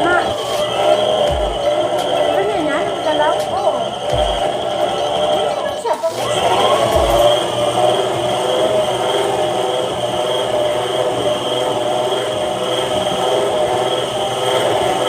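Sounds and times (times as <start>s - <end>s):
stand mixer motor whirring: 0.0s - 15.0s.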